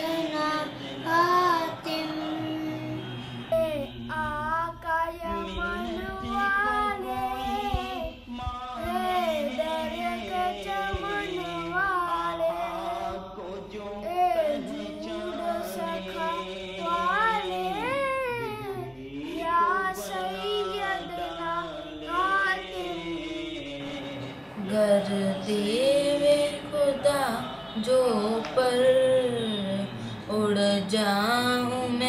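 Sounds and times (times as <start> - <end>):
boy singing devotional song: 0.0 - 32.0.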